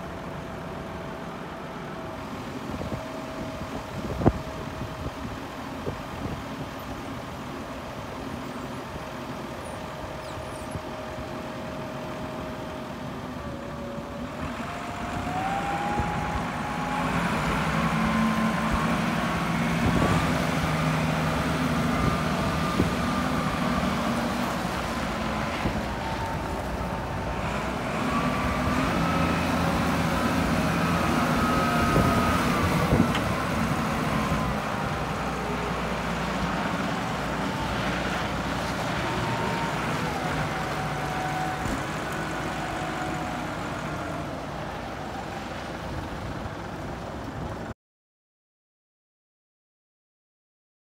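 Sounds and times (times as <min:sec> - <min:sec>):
forklift engine running: 0:00.0 - 0:47.7.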